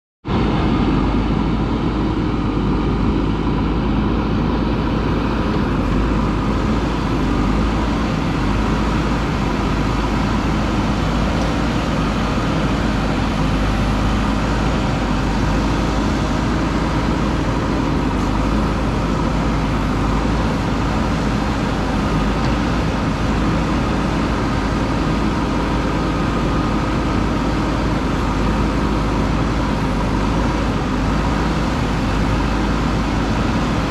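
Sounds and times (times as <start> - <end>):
diesel engine running: 0.3 - 33.9.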